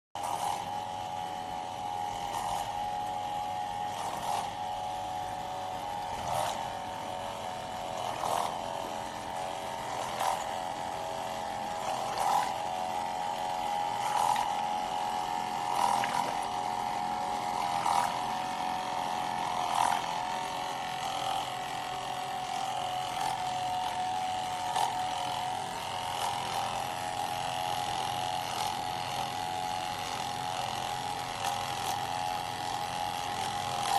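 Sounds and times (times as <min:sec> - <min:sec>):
electric pumps humming: 0:00.2 - 0:33.9.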